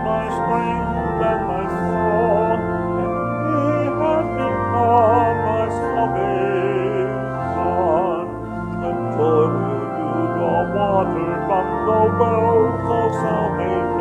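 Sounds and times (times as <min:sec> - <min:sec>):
organ chords: 0:00.0 - 0:14.0
voices singing a hymn: 0:00.0 - 0:14.0.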